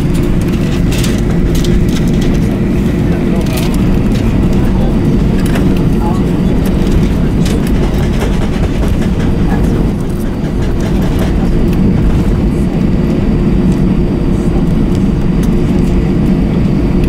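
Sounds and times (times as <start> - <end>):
wheels rolling on pavement: 0.0 - 16.0
aircraft engine rumble: 0.0 - 17.0.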